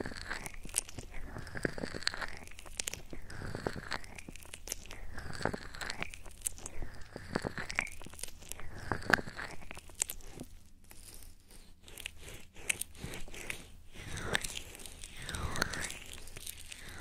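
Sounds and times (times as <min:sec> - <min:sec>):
crisp clicks and crackles: 0:00.0 - 0:17.0.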